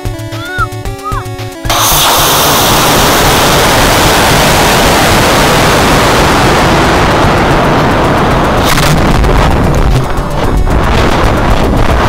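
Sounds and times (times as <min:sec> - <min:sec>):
rocket motor and air rushing: 0:01.7 - 0:12.0.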